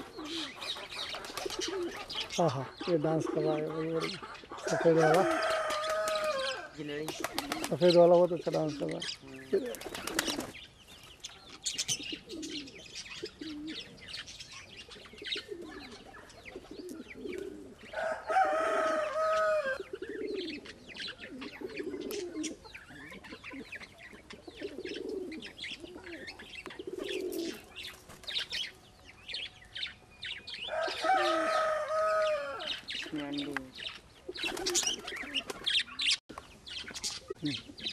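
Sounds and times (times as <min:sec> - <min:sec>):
high-pitched pigeon calls: 0:00.0 - 0:37.9
pigeons cooing: 0:00.0 - 0:37.9.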